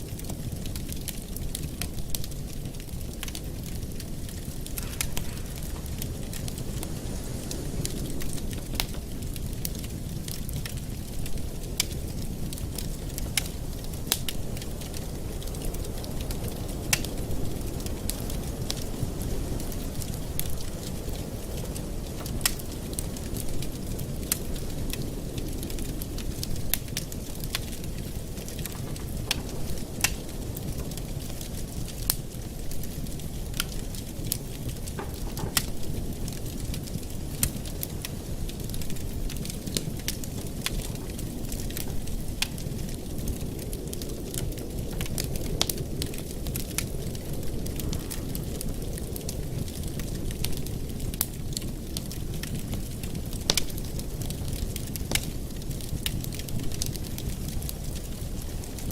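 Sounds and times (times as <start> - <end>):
fire crackling and popping: 0.0 - 58.9
fire low rumble: 0.0 - 58.9.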